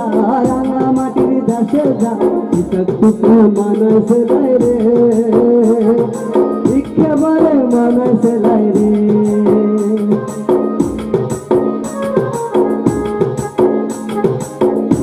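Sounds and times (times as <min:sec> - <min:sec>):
hand percussion beat: 0:00.0 - 0:15.0
keyboards and harmonium melody: 0:00.0 - 0:15.0.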